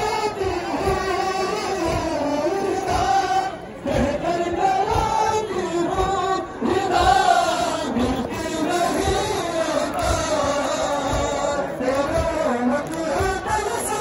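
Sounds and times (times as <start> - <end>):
voices chanting through loudspeakers: 0.0 - 14.0.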